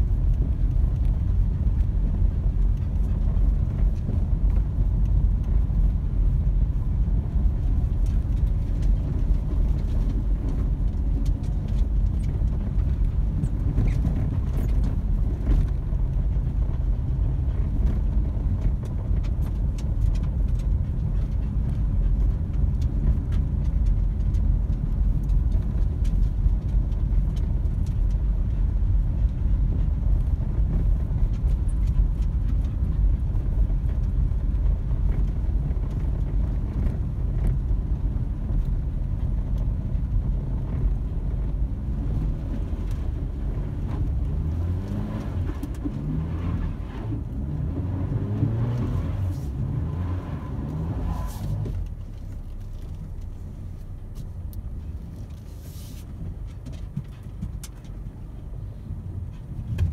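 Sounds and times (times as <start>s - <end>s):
engine and tyres rumbling: 0.0s - 59.9s.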